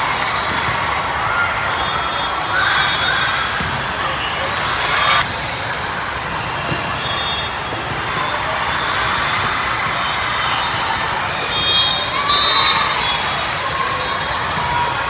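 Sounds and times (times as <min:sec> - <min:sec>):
murmur of voices in a hall: 0:00.0 - 0:15.0.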